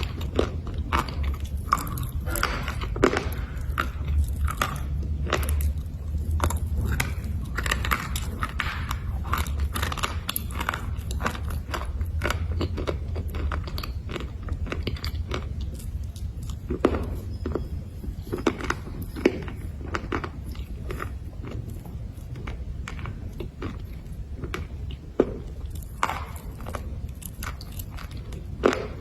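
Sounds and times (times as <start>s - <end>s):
low hum: 0.0s - 29.0s
person chewing slate crunching: 0.0s - 29.0s.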